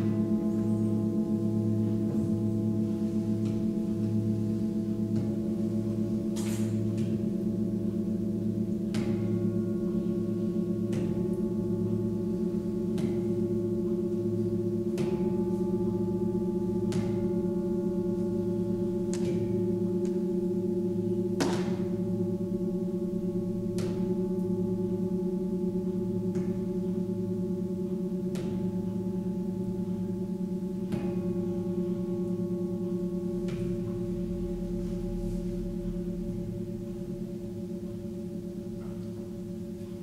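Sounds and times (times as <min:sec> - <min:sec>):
singing bowl struck: 0:00.0 - 0:40.0
singing bowls droning: 0:00.0 - 0:40.0.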